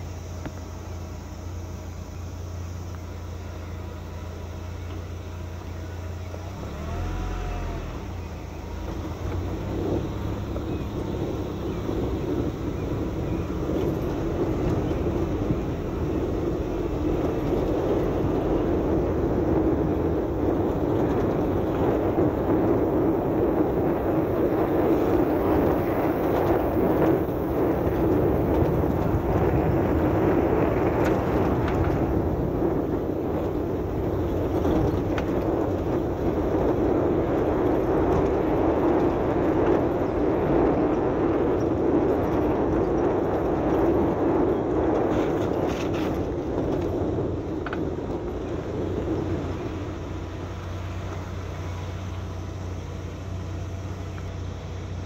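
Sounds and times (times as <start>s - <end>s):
tyre and wind noise: 0.0s - 55.0s
vehicle engine hum: 0.0s - 55.0s.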